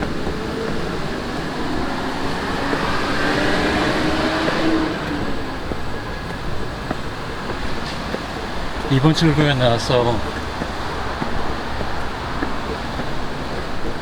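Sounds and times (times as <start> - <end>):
subway station rumble and hiss: 0.0 - 14.0.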